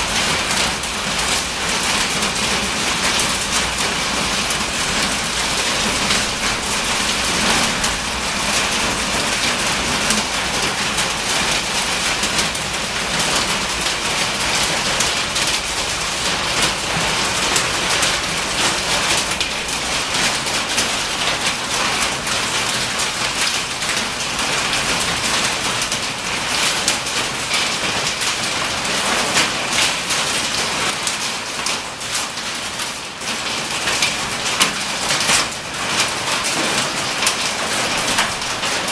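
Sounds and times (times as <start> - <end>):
hail clattering on metal building: 0.0 - 38.9.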